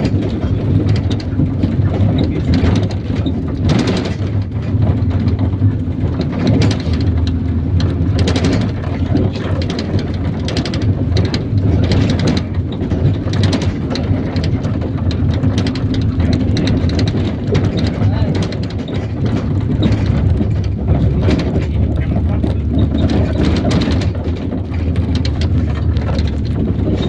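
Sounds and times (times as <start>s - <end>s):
bus engine droning: 0.0s - 27.0s
clattering and knocks from bus body: 0.0s - 27.0s.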